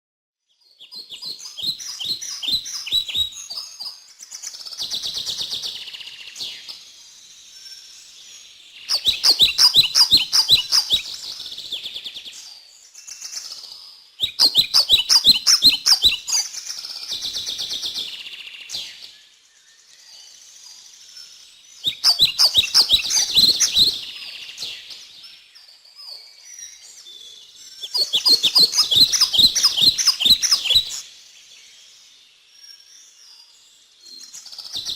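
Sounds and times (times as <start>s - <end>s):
songbird singing with buzzy trill: 0.5s - 34.9s.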